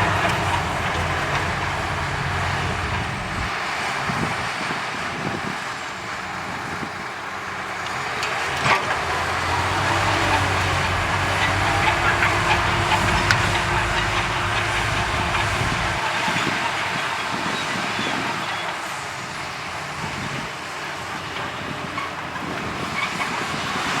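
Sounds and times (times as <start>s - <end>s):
diesel machinery running: 0.0s - 24.0s.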